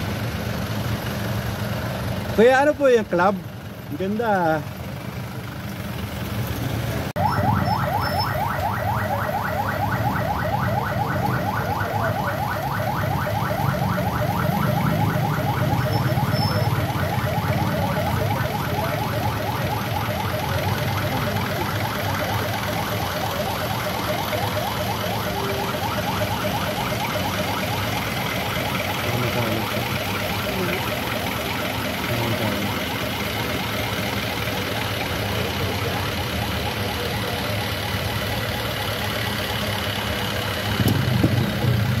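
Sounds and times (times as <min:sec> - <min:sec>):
vehicle engines idling: 0:00.0 - 0:42.0.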